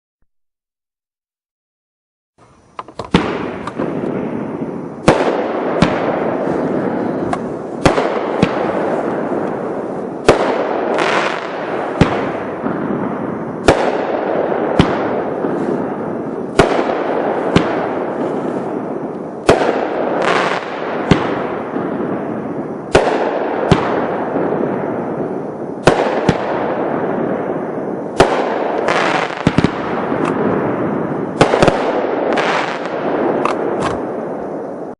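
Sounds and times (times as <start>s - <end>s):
firework crackle: 2.4s - 34.9s
firework reports: 2.6s - 34.9s.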